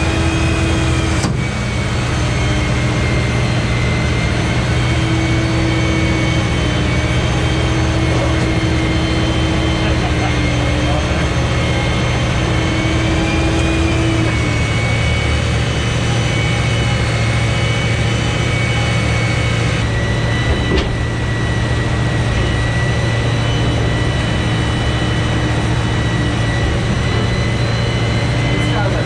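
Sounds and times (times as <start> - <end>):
vehicle engine humming and whining: 0.0 - 29.0.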